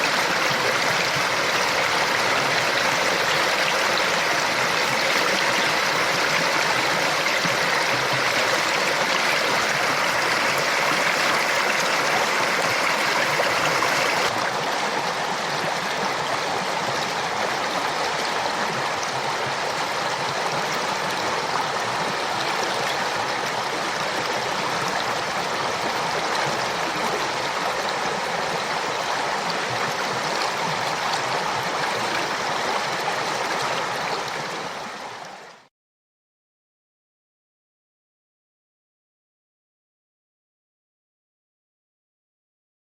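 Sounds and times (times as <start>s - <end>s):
water rushing in creek: 0.0s - 35.7s.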